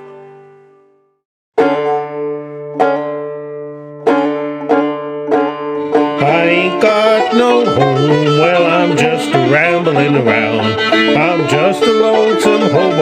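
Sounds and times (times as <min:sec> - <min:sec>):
banjo strummed chords: 0:00.0 - 0:00.8, 0:01.6 - 0:13.0
fiddle bowing a melody: 0:01.6 - 0:13.0.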